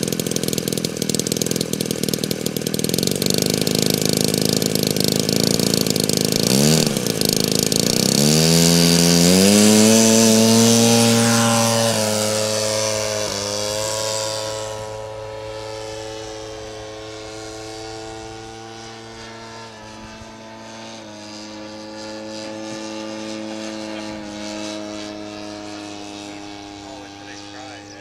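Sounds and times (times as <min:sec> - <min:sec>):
model plane propeller drone: 0:00.0 - 0:28.0.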